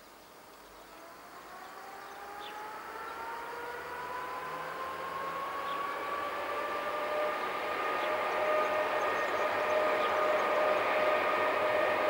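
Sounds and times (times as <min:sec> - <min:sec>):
diesel train approaching: 0:00.8 - 0:12.0
rising whine: 0:01.0 - 0:12.0.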